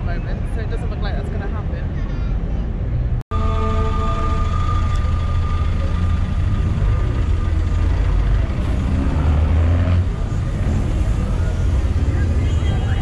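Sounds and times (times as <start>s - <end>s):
bus diesel engine rumbling: 0.0s - 13.0s
street traffic: 0.0s - 13.0s.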